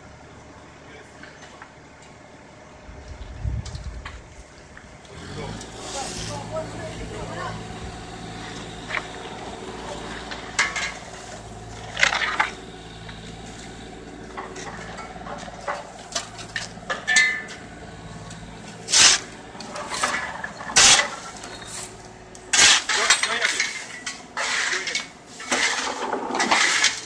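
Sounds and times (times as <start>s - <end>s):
excavator engine idling: 3.9s - 26.0s
shovels scraping on road: 5.1s - 27.0s.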